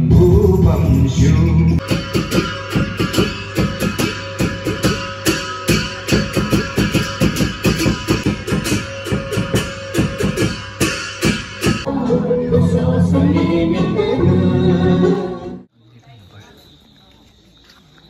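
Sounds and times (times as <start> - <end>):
strummed guitar music: 0.6 - 15.4.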